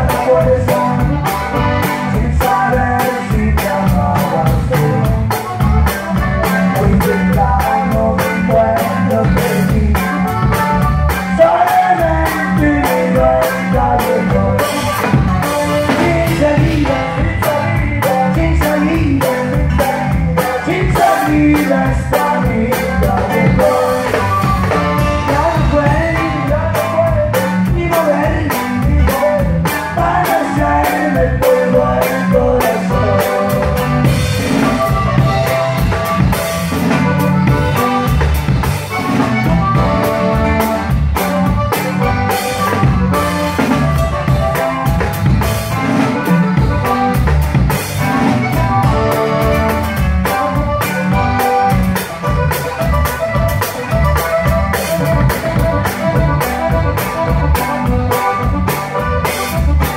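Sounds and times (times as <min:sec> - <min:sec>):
drum kit beat: 0:00.0 - 0:59.9
live band music: 0:00.0 - 0:59.9.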